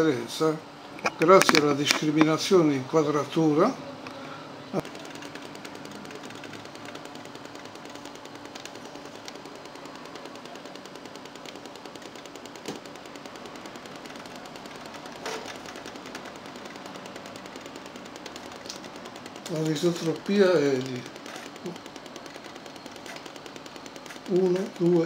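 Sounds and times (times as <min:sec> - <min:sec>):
pen recorder mechanical ticking: 0:01.0 - 0:02.4, 0:04.8 - 0:25.0.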